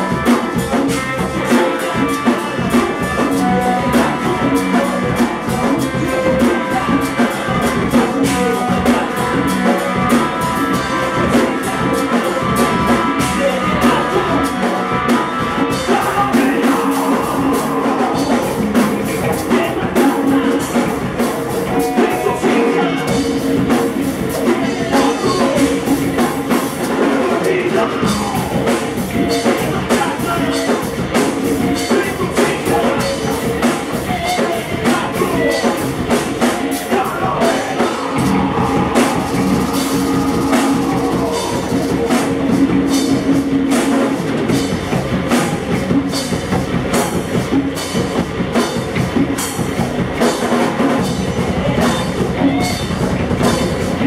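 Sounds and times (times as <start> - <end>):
man singing into a microphone: 0.0 - 43.3, 50.8 - 54.0
bass guitar: 0.0 - 54.0
congas and timbales: 0.0 - 54.0
distorted electric guitar: 0.0 - 54.0
drum kit: 0.0 - 54.0.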